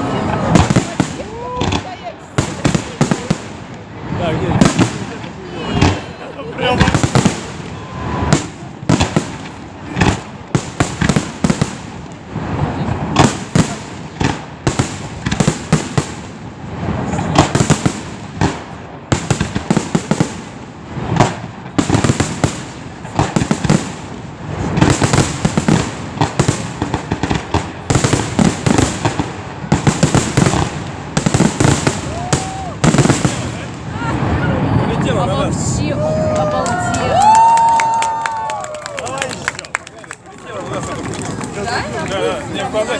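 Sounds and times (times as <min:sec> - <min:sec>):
fireworks crackling: 0:00.0 - 0:42.9.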